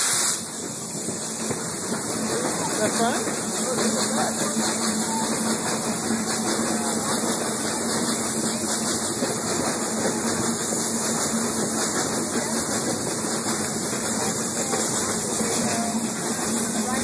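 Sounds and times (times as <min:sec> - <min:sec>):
train wheels and air rushing: 0:00.0 - 0:17.0.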